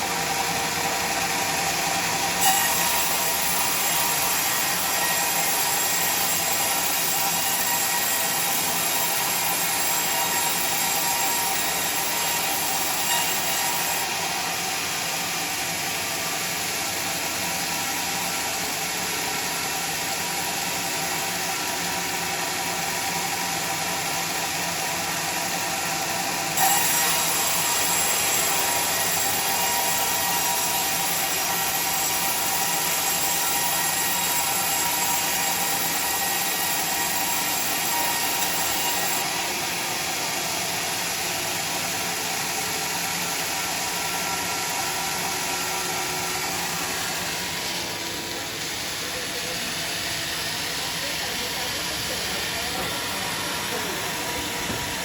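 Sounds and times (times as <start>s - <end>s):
sawmill saw cutting logs: 0.0s - 55.0s.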